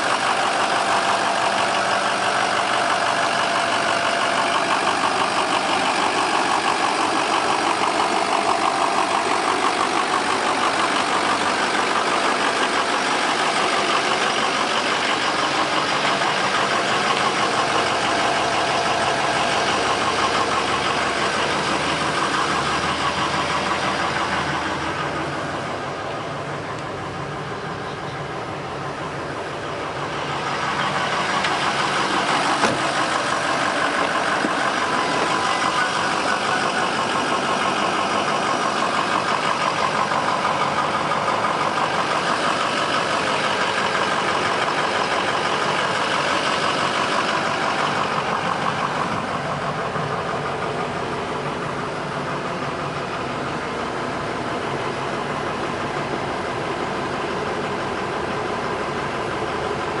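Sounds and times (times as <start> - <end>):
pickup truck engine idling: 0.0 - 60.0.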